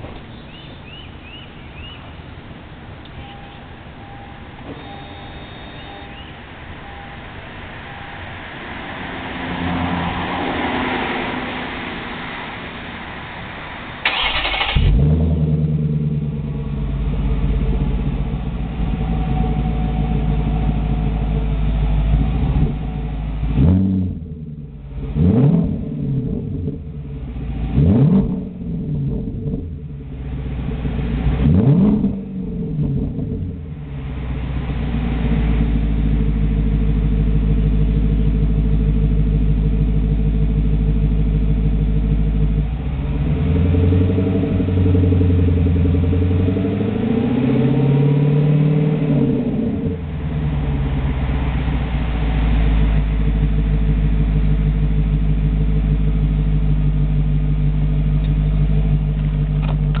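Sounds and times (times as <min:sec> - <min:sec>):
car engine revving and idling: 0:00.0 - 1:00.0.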